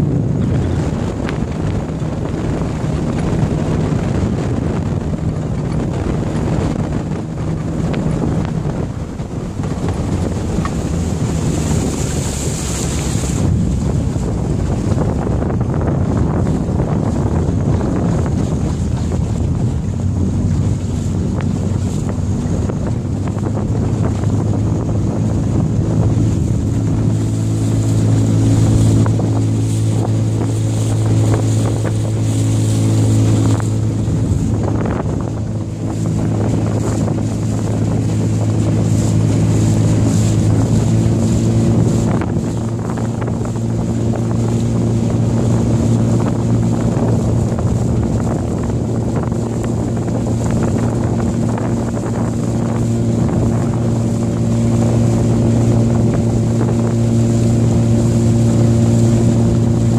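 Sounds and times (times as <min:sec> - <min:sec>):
boat motor humming: 0:00.0 - 0:59.9.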